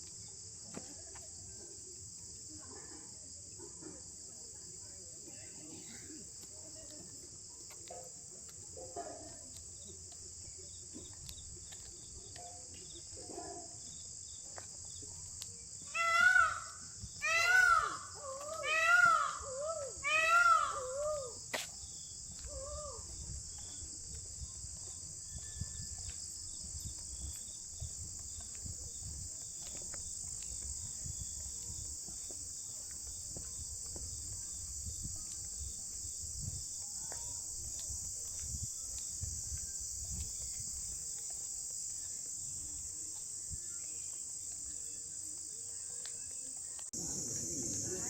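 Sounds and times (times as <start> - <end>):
insects chirping chorus: 0.0 - 48.0.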